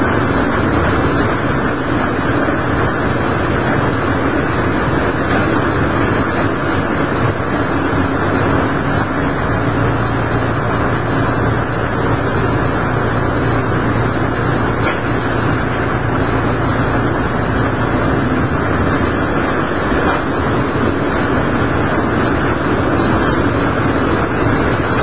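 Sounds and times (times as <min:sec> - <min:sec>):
low hum: 0:00.0 - 0:25.0
railcar engine and wheels drone: 0:00.0 - 0:25.0.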